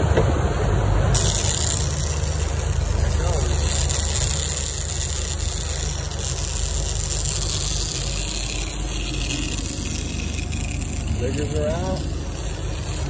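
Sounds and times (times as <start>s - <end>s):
boat engine droning: 0.0s - 13.0s
churning wake: 0.0s - 13.0s
wind: 0.0s - 13.0s.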